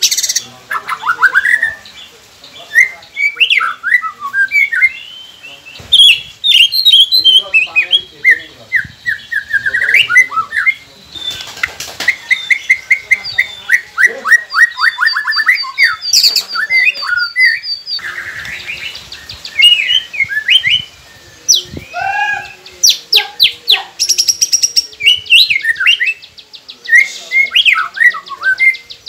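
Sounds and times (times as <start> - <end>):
bird singing whistled phrases: 2.6 - 29.0.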